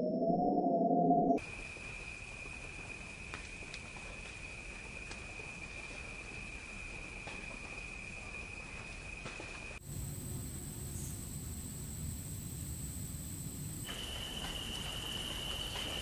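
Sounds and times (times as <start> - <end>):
faint hiss: 1.4 - 16.0.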